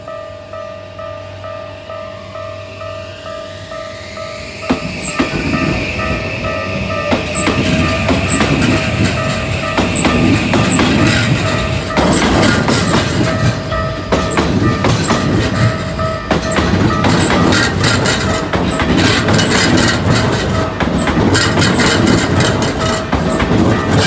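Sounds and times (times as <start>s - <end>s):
train rumble: 0.0s - 24.0s
wheels clacking over rail joints: 4.7s - 24.0s.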